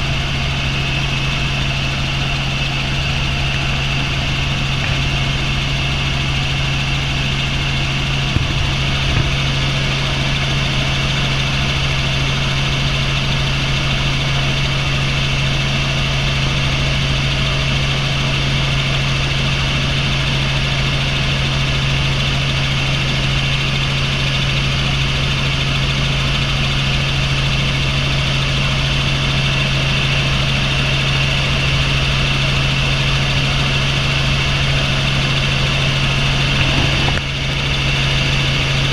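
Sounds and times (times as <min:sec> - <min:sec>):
helicopter turbine and rotor drone: 0:00.0 - 0:38.9.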